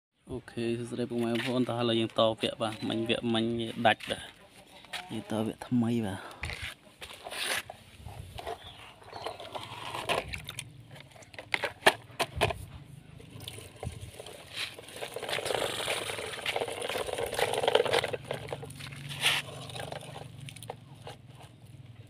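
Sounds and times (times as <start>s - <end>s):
toy truck wheels crunching on dirt: 0.8s - 22.0s.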